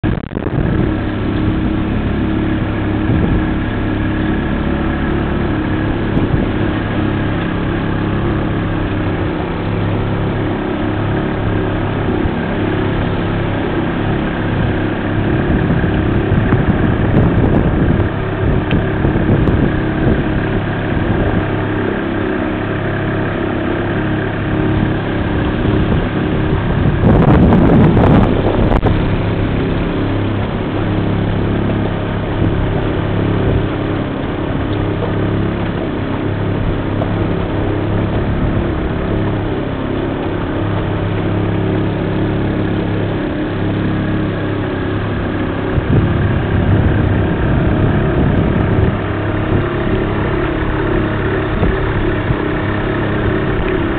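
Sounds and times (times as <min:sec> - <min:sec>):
boat engine running: 0:00.0 - 0:53.9
rush of noise: 0:00.0 - 0:53.9.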